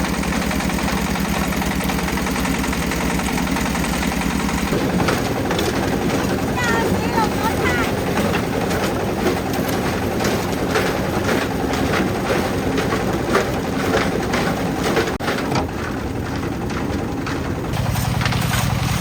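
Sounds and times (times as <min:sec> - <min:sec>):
clatter and rattle: 0:00.0 - 0:19.0
engine running: 0:00.0 - 0:19.0.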